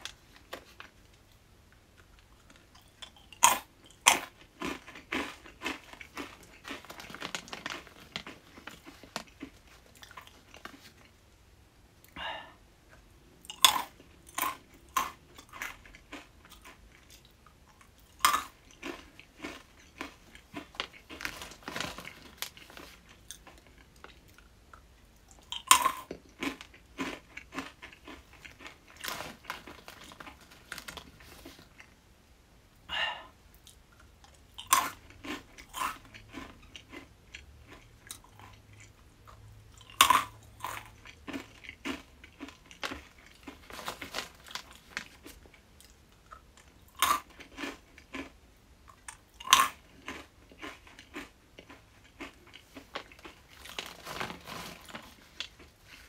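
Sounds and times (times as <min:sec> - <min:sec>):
crunchy chewing: 0:01.9 - 0:11.2, 0:13.4 - 0:32.0, 0:33.6 - 0:56.0.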